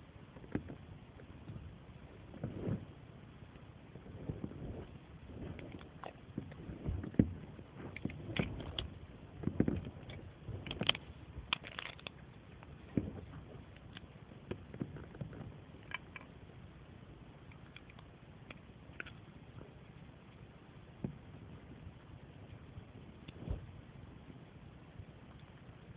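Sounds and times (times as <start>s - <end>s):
handling rumble: 0.0s - 25.9s.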